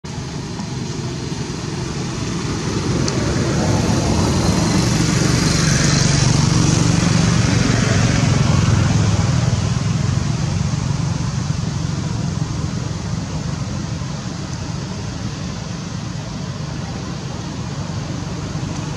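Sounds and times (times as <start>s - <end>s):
vehicle engine low rumble: 0.1s - 18.9s.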